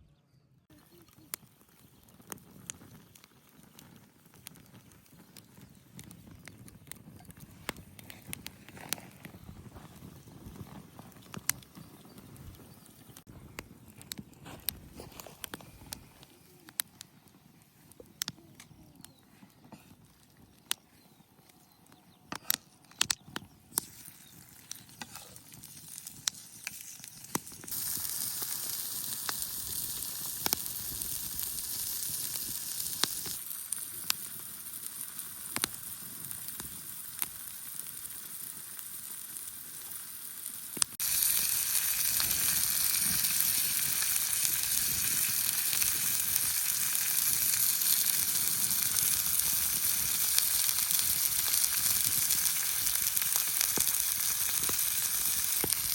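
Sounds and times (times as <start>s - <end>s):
meat sizzling on hot stone: 0.8s - 16.9s, 21.6s - 55.9s.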